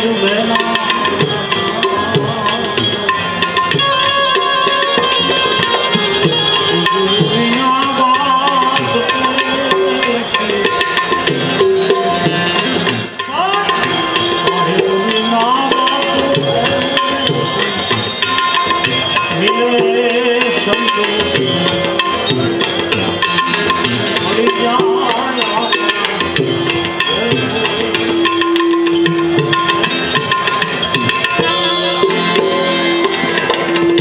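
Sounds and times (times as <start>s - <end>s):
sliding ornamented melody: 0.0s - 34.0s
tabla rhythm: 0.0s - 34.0s.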